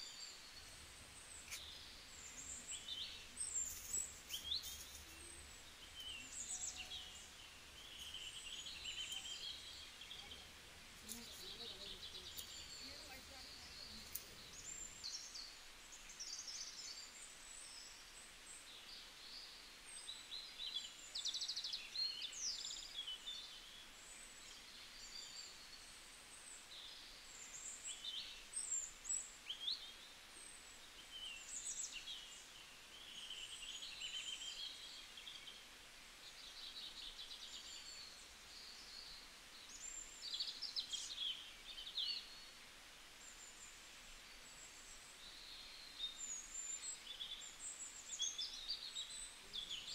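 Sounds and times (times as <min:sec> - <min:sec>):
faint background hiss: 0:00.0 - 0:49.9
small birds chirping and trilling: 0:00.0 - 0:49.9.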